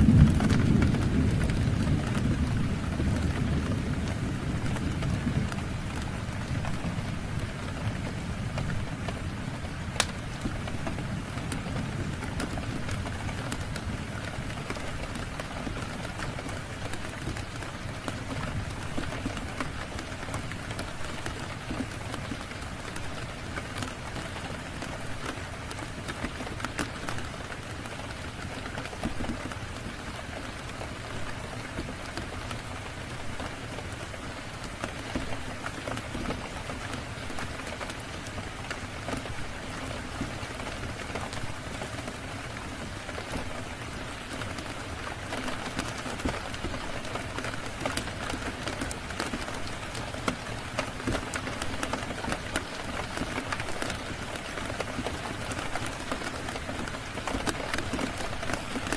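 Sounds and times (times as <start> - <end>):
rain falling on a surface: 0.0 - 58.9.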